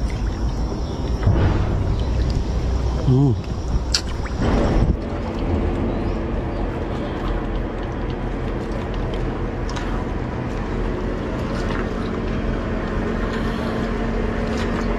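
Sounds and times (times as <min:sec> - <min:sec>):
boat engine humming: 0:00.0 - 0:14.9.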